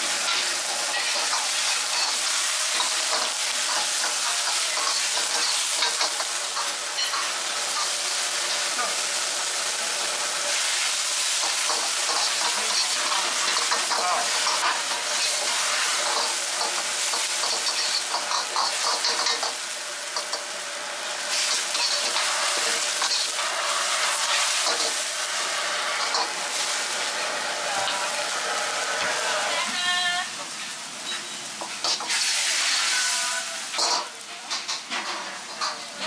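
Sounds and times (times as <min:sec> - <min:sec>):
greens sizzling in a wok: 0:00.0 - 0:36.0.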